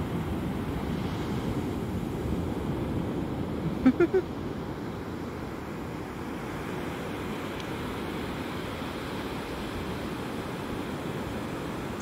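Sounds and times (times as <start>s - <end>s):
surf rumble: 0.0s - 12.0s.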